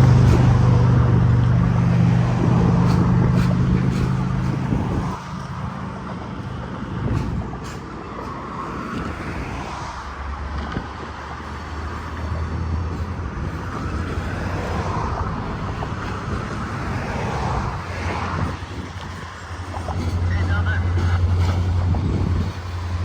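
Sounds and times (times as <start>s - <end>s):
diesel locomotive engine hum: 0.0s - 23.0s
train rolling noise: 0.0s - 23.0s.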